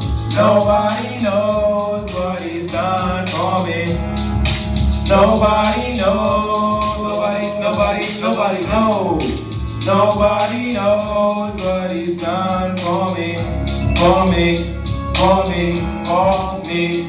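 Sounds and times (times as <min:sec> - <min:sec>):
hip-hop backing track: 0:00.0 - 0:17.0
man singing into microphone: 0:00.0 - 0:17.0.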